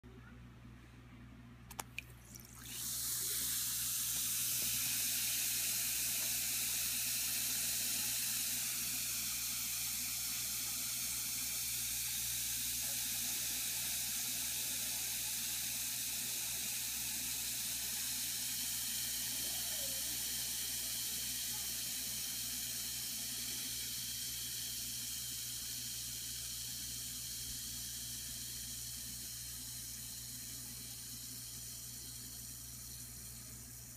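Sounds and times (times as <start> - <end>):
bath bomb fizzing in water: 1.7 - 33.9.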